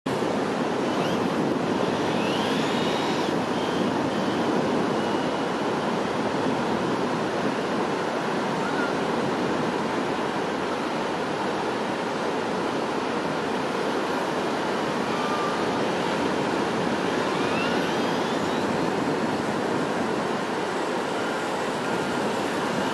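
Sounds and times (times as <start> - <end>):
electric motor whine: 0.1 - 9.4, 13.7 - 22.9
wind noise on microphone: 0.1 - 22.9.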